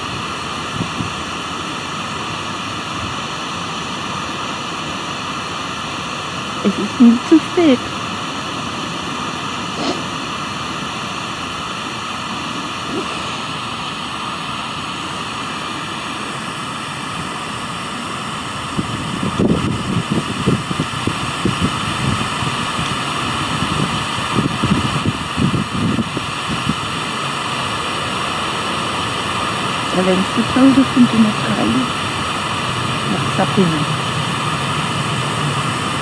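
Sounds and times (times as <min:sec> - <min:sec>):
static hiss: 0:00.0 - 0:36.0.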